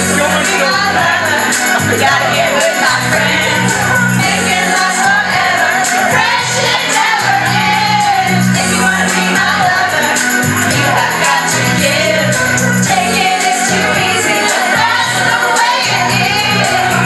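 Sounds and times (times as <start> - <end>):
pop backing track: 0.0 - 17.0
women singing karaoke: 0.0 - 17.0.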